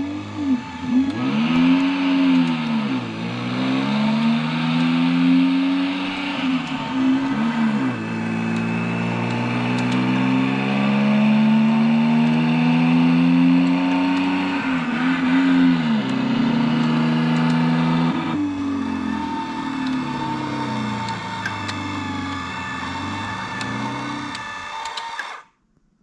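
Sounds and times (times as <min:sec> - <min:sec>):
car engine revving: 0:00.0 - 0:25.4.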